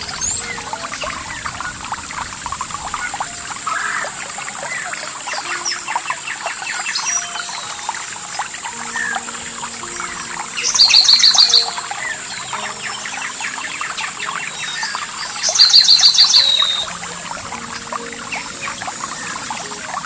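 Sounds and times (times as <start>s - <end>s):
bird chirps: 0.0s - 20.0s
running water: 0.0s - 20.0s
songbird singing: 0.0s - 20.0s.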